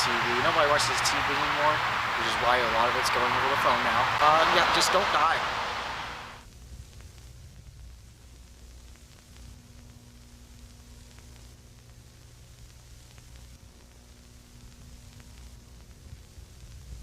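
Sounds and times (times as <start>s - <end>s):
low steady hum and hiss: 0.0s - 17.0s.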